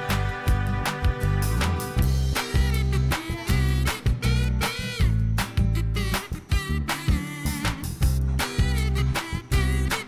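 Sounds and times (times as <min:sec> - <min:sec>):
bass line: 0:00.0 - 0:10.0
drum beat: 0:00.1 - 0:05.8, 0:06.5 - 0:10.0.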